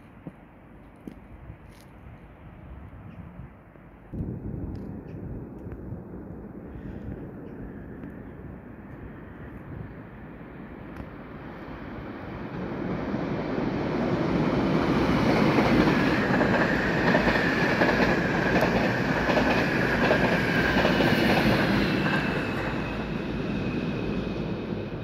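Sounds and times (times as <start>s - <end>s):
electric train passing at speed: 2.2s - 25.0s.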